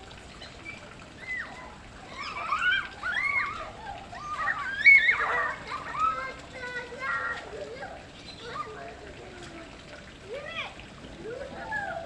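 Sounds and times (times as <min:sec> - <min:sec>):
splashing water: 0:00.0 - 0:12.0
children shouting and squealing: 0:00.6 - 0:12.0.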